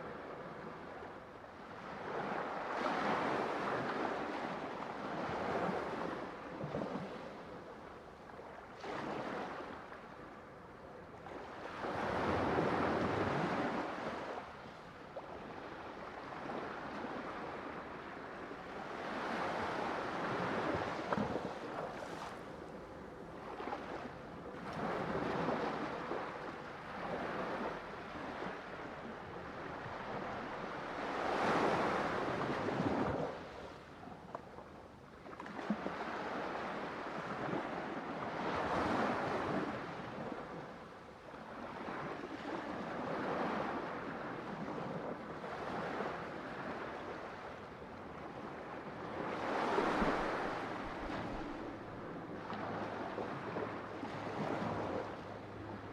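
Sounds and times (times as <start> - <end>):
ocean waves breaking on shore: 0.0 - 7.6, 11.3 - 34.1, 35.2 - 55.9.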